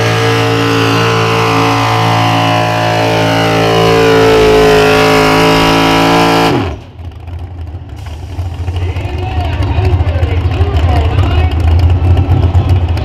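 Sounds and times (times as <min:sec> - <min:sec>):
truck engine revving under load: 0:00.0 - 0:13.0.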